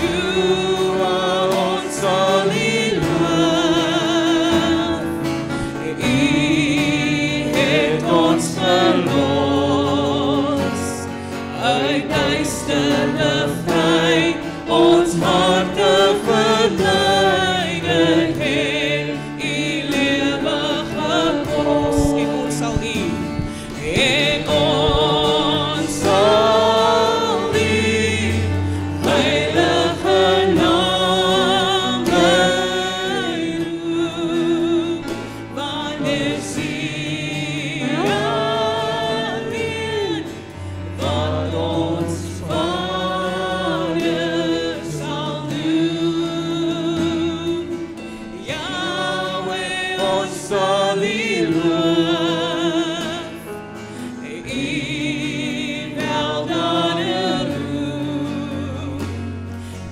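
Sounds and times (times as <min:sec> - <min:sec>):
congregation singing: 0:00.0 - 0:59.9
guitar and keyboard accompaniment: 0:00.0 - 0:59.9.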